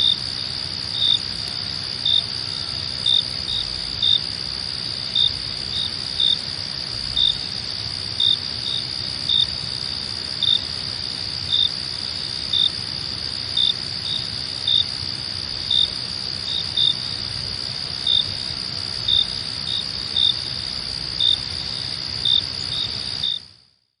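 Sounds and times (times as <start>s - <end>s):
crickets trilling: 0.0s - 23.6s
cricket chirps: 0.0s - 23.8s.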